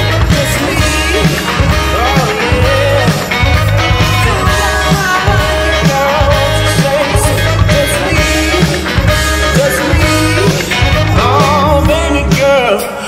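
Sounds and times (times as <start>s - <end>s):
heavy pulsing bass line: 0.0s - 12.7s
dance music with sung vocal: 0.0s - 13.0s.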